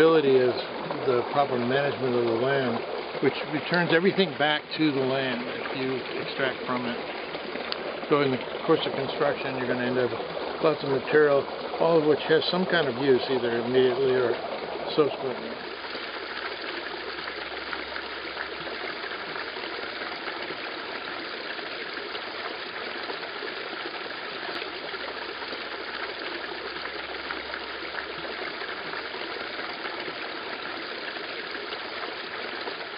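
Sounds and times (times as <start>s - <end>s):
water trickling into stone basin: 0.0s - 32.9s.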